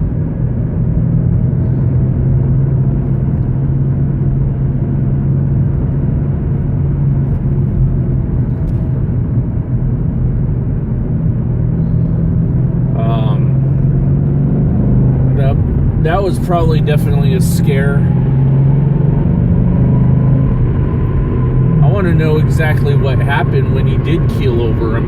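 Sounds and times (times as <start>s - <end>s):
car engine hum: 0.0s - 25.0s
road noise: 0.0s - 25.0s.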